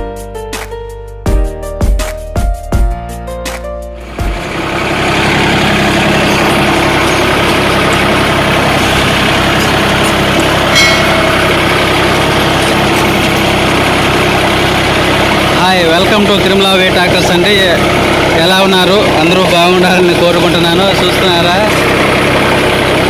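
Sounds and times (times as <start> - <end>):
tractor diesel engine running: 4.0 - 23.0.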